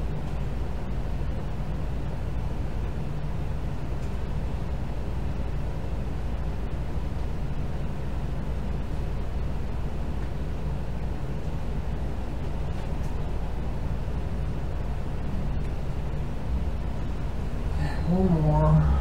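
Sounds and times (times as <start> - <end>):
low rumbling hum with hiss: 0.0 - 19.0.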